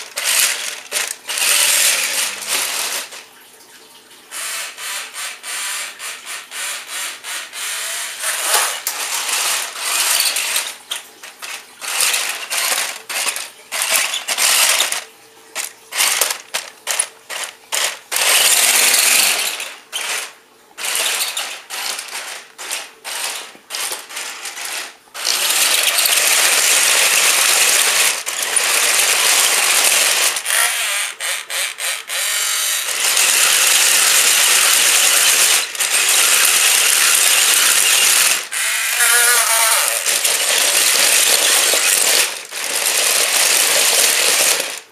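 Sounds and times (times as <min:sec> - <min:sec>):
toy electric motors whirring: 0:00.0 - 0:03.2, 0:04.3 - 0:44.9.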